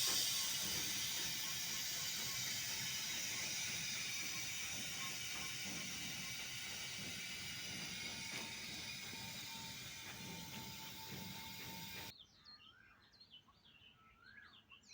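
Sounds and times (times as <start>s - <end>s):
faint thin whine: 0.0s - 12.1s
train rolling on track: 0.0s - 12.1s.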